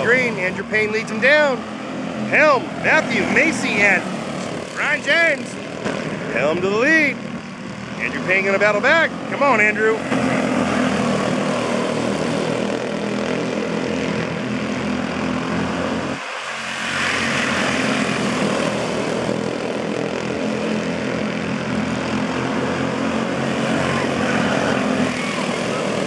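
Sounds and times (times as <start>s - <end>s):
race car engines buzzing: 0.0s - 26.0s.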